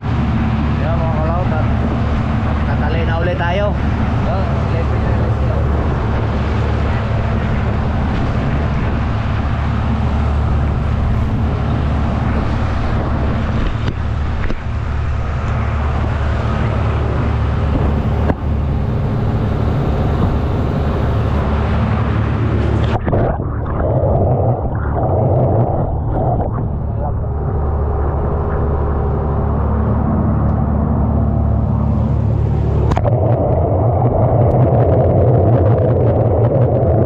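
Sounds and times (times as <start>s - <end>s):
boat engine running: 0.0s - 37.0s
water churning and splashing: 0.0s - 37.0s
muffled underwater sound: 0.1s - 37.0s.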